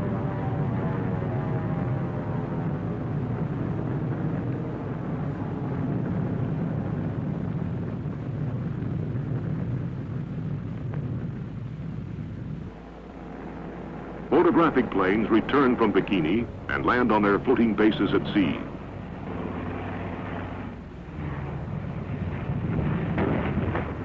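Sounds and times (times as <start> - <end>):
aircraft engine rumble: 0.0 - 24.0.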